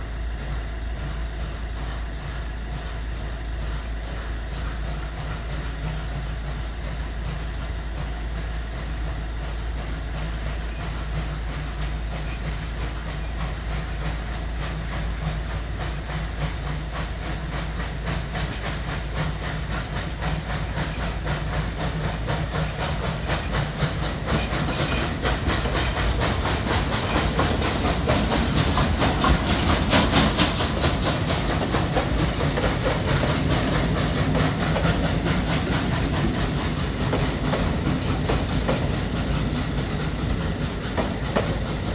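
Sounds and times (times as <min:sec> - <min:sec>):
hissing steam: 0:00.0 - 0:41.9
steam locomotive exhaust beats: 0:00.0 - 0:41.9
wheels clacking over rail joints: 0:03.5 - 0:41.9.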